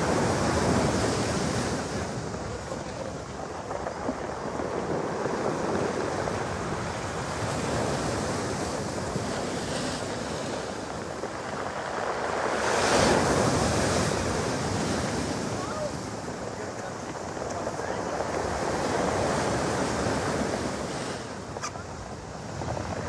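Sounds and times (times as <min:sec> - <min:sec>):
surf breaking on pebbles: 0:00.0 - 0:23.0
wind buffeting microphone: 0:00.0 - 0:23.0.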